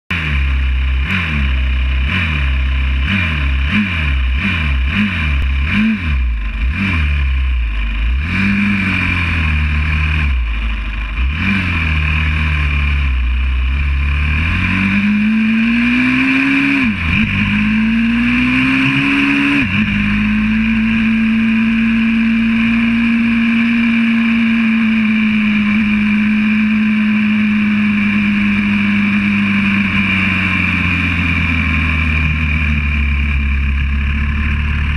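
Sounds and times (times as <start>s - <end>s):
motorbike engine revving: 0.1s - 34.9s.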